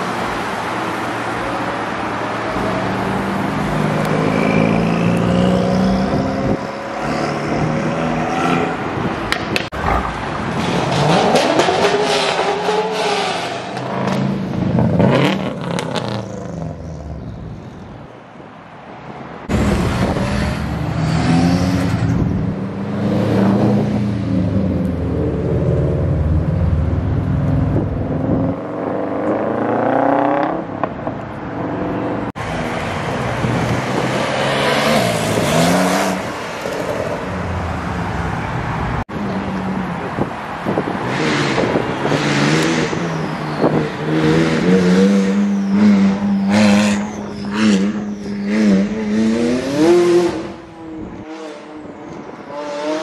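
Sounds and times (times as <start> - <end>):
sports car engines revving past: 2.3 - 17.3, 19.4 - 53.0.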